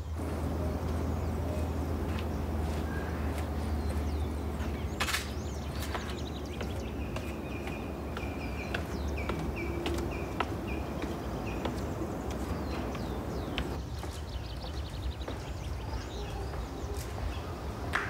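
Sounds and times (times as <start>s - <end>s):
birds chirping: 0.0s - 18.0s
footsteps on concrete steps: 0.8s - 18.0s.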